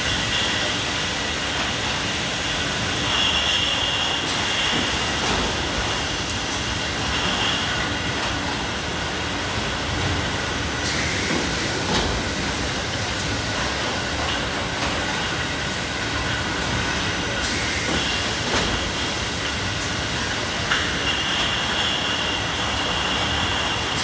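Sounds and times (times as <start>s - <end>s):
bottle handling machinery running: 0.0s - 24.0s.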